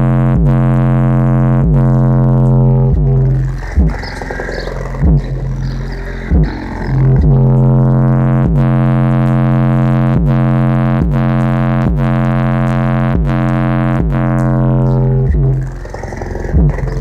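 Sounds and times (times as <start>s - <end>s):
synth bass note: 0.0s - 17.0s.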